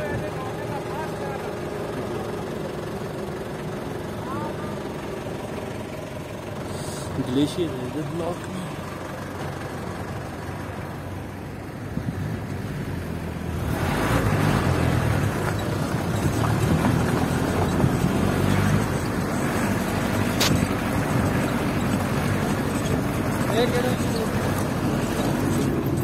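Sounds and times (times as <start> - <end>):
jeep engine driving: 0.0 - 26.0.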